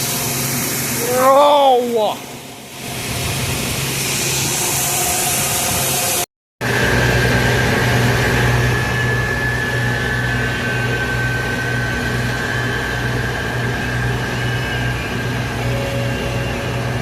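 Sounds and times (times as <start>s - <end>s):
low engine drone: 0.0s - 17.0s
thin high whine: 0.0s - 17.0s.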